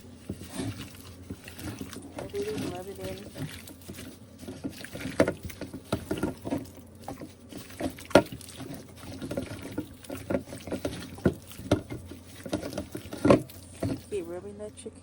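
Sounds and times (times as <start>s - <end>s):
wet squelches of raw chicken: 0.0s - 14.3s.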